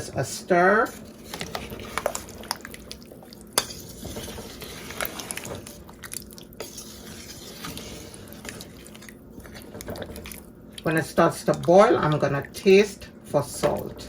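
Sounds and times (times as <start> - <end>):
spoon stirring in a pot: 0.0 - 14.0.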